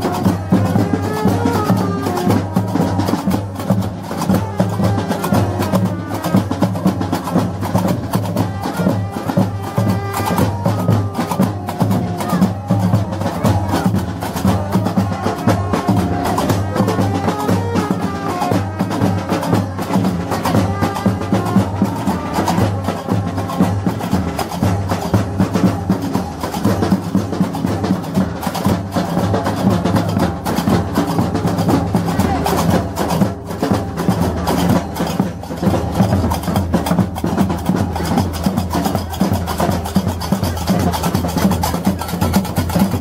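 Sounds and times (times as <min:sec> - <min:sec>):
drum: 0:00.0 - 0:43.0.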